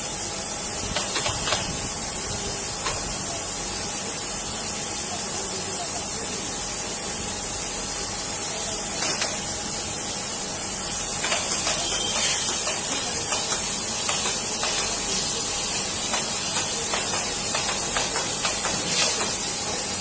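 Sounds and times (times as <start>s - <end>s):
high-pitched hiss: 0.0s - 20.0s.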